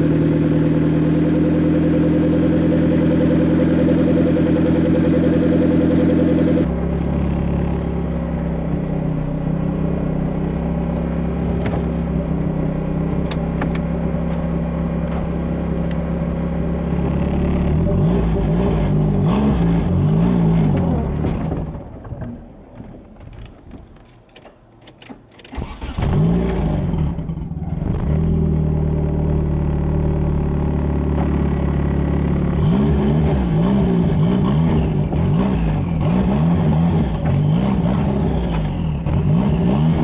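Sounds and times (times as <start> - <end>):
car engine running and revving: 0.0 - 23.1, 25.5 - 40.0.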